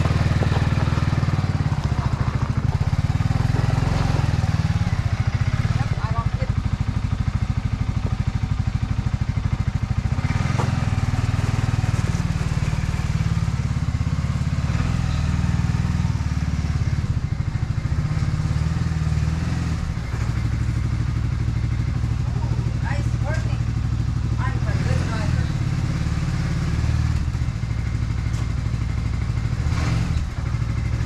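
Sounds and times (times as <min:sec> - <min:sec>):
atv engine putter: 0:00.0 - 0:31.0.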